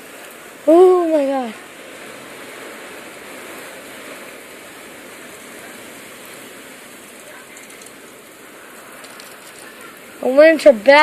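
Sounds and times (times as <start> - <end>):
strong wind rushing through trees: 0.0 - 11.0.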